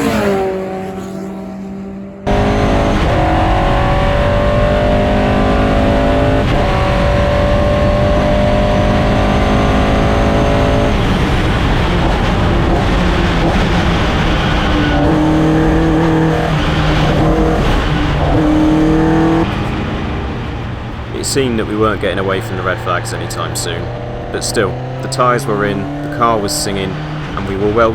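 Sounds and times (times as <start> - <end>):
race car engine revving: 0.0 - 27.9.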